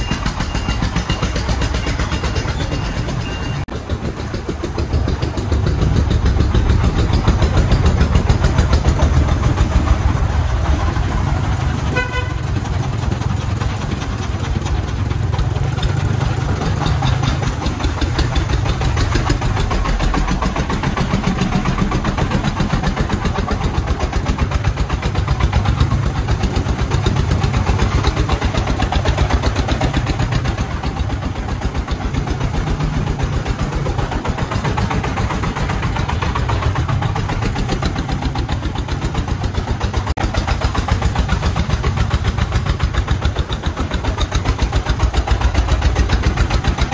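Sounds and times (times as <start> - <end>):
diesel engine running under load: 0.0 - 46.9.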